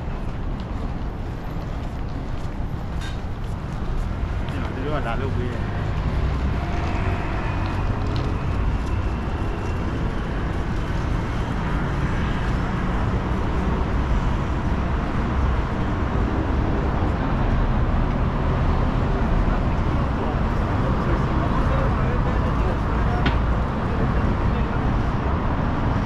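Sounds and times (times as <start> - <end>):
city street traffic: 0.0 - 26.0.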